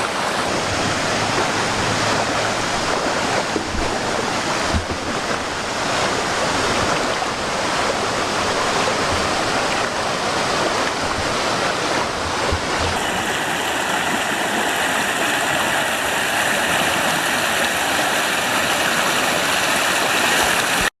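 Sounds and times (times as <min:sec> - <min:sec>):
waterfall splashing over rocks: 0:00.0 - 0:20.9.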